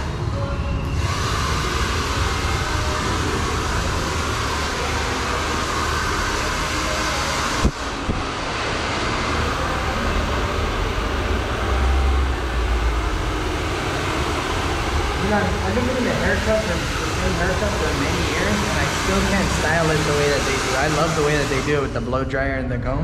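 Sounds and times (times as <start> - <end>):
hair dryer blowing: 0.9 - 22.1.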